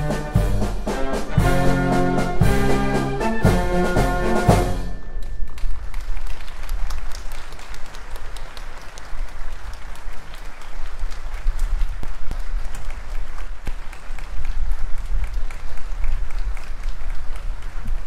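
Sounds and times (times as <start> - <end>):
audience applauding: 3.5 - 18.0.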